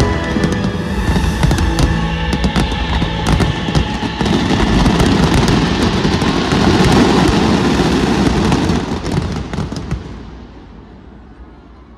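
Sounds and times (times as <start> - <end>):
fireworks crackling and rumbling: 0.0 - 11.2.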